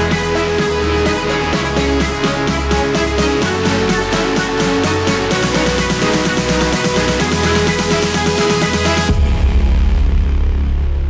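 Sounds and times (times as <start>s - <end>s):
electronic music with steady beat: 0.0s - 9.9s
pulsing bass line: 0.0s - 11.0s.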